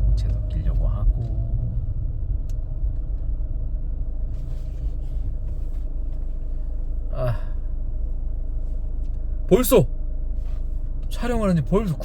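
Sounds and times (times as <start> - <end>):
car road rumble inside cabin: 0.0 - 12.0.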